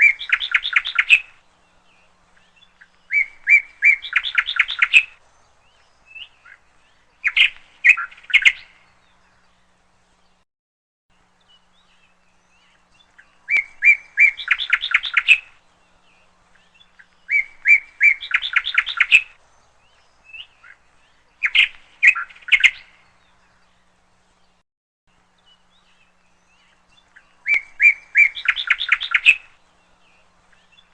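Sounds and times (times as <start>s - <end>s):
songbird trilling: 0.0s - 9.5s, 11.4s - 23.8s, 25.4s - 30.9s.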